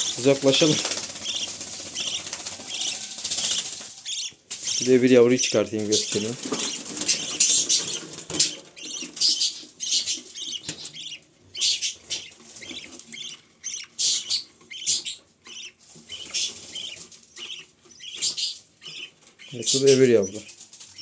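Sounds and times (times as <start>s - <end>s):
budgerigars cheeping: 0.0s - 21.0s.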